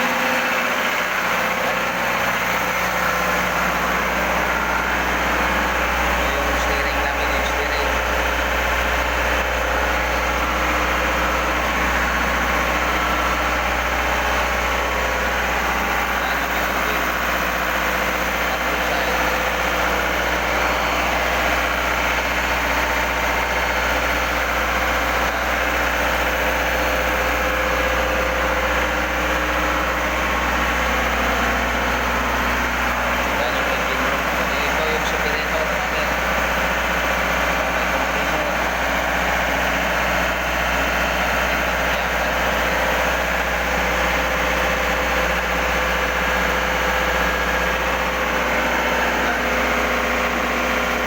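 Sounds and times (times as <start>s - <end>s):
engine-room machinery drone: 0.0s - 51.0s.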